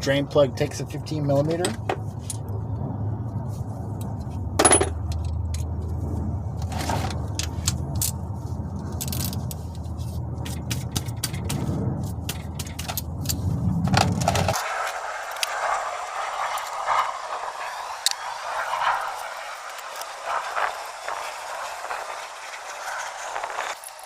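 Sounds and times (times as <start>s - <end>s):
low rushing noise: 0.0s - 23.8s.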